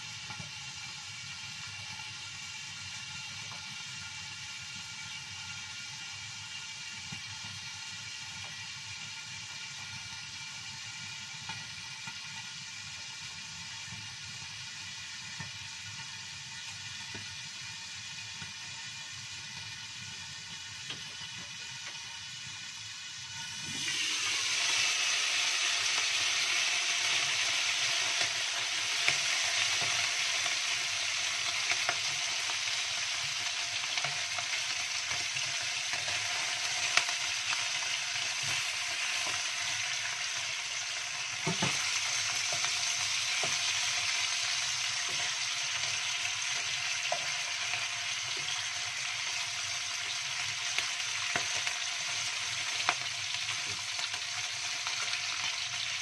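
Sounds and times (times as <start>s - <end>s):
fish frying in oil: 0.0s - 56.0s.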